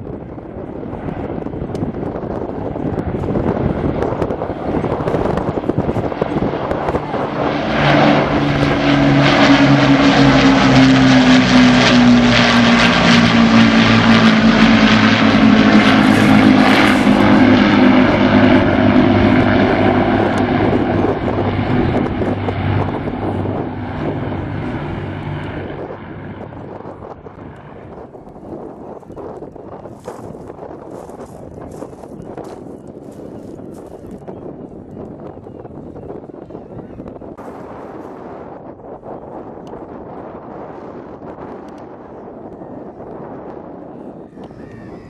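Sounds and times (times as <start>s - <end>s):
propeller aircraft flying past: 0.0s - 45.0s.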